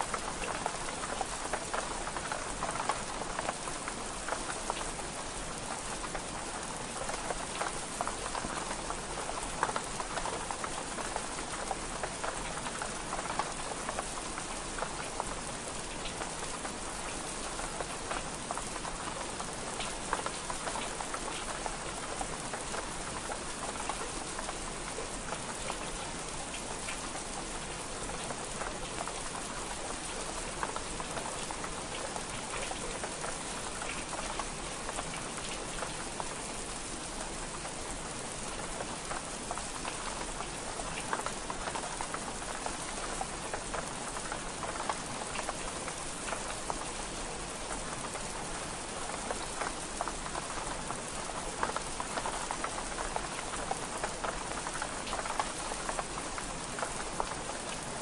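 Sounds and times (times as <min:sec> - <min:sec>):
rain pattering on window glass: 0:00.0 - 0:58.0.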